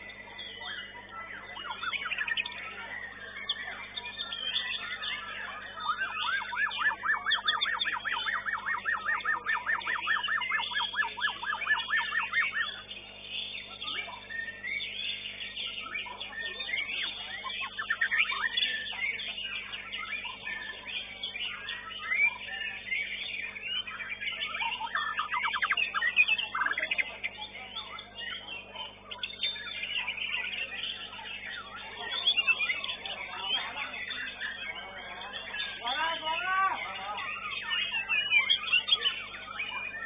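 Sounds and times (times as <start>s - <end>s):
bird chirping phrases: 0.0s - 40.0s
bird fast trill: 0.0s - 40.0s.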